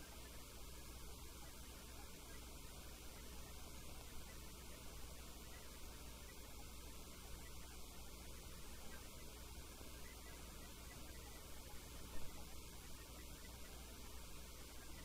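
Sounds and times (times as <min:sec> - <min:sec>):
faint electrical mains hum: 0:00.0 - 0:15.0
room noise hiss: 0:00.0 - 0:15.0.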